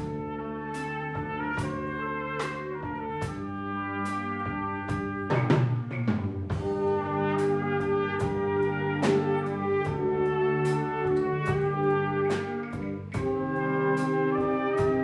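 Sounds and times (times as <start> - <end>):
brass sustained chords: 0.0 - 5.8, 6.5 - 15.0.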